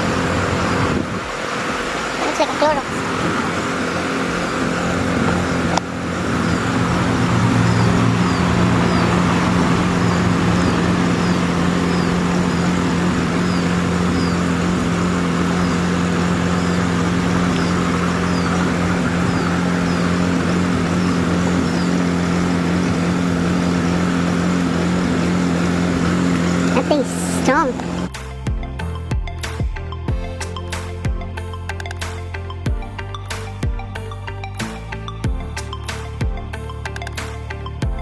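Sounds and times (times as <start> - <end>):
motor running steadily: 0.0 - 38.0.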